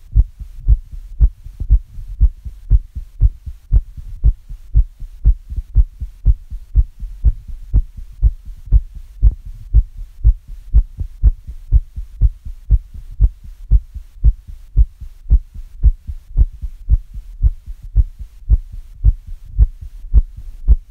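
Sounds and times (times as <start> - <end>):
human heartbeat thumps: 0.0 - 20.9.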